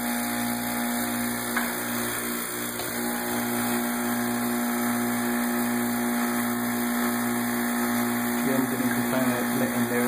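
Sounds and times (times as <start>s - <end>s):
machine hum with hiss: 0.0s - 10.0s.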